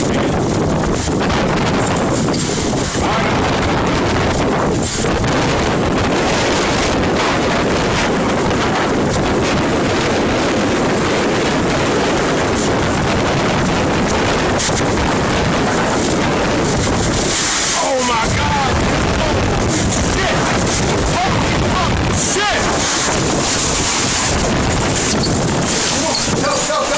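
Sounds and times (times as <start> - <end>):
strong wind rushing: 0.0 - 26.9
wind buffeting microphone: 0.0 - 26.9.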